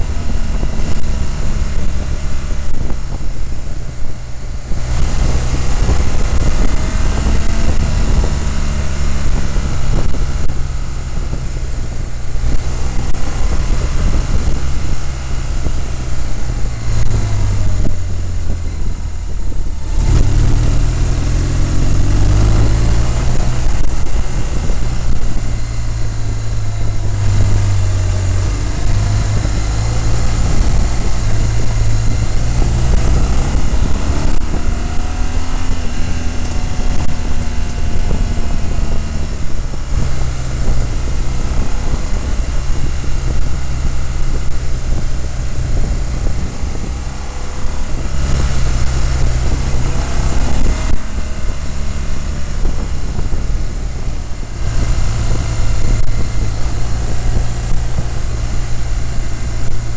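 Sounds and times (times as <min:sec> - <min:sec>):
vehicle engine driving on dirt road: 0:00.0 - 0:59.9.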